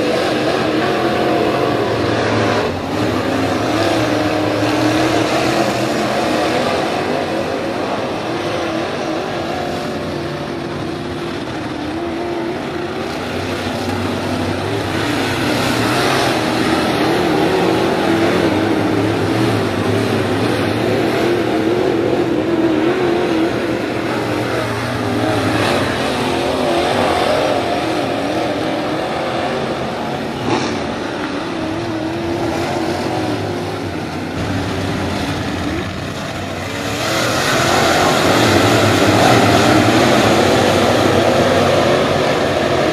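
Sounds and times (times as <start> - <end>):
race car engines droning: 0.0 - 42.9.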